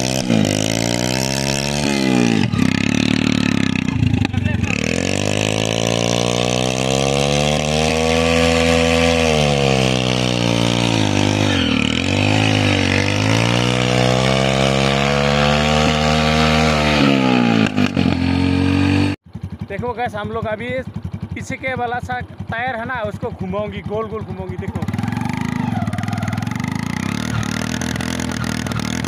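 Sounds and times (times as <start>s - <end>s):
motorcycle engine revving hard: 0.0s - 20.3s, 20.9s - 29.0s.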